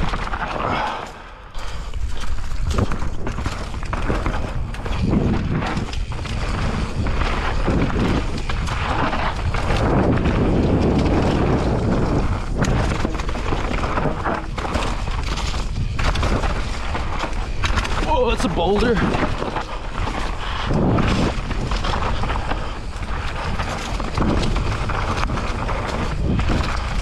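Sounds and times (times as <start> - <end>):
bike knocking and rattling: 0.0 - 27.0
tyres running over dirt: 0.0 - 27.0
wind rumbling on microphone: 0.0 - 27.0.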